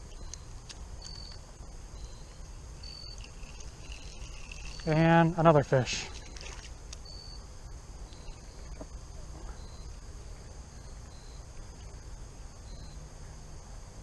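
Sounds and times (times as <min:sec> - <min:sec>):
insects chirping: 0:00.0 - 0:14.0
steady high hum: 0:00.0 - 0:14.0.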